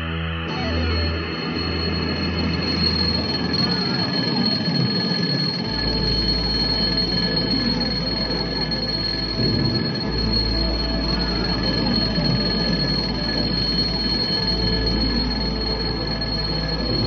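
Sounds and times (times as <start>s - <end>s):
electronic drone: 0.0s - 17.0s
swooping electronic tones: 0.0s - 17.0s.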